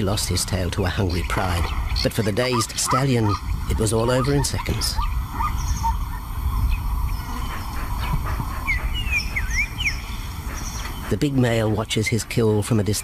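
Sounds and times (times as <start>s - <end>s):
birds whistling and chirping: 0.6s - 12.5s.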